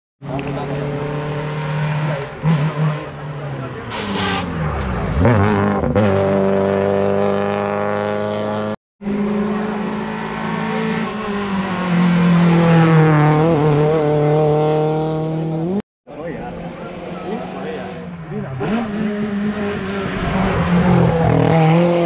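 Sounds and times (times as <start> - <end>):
rally car engine revving hard: 0.6 - 15.8, 16.7 - 22.0.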